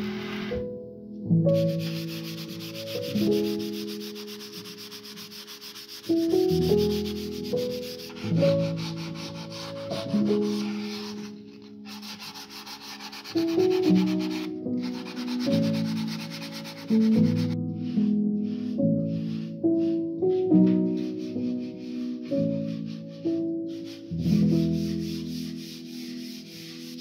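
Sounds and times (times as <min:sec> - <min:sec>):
soft piano chords: 0:00.0 - 0:27.0
sandpaper rubbing on wood: 0:01.6 - 0:20.4, 0:21.0 - 0:27.0.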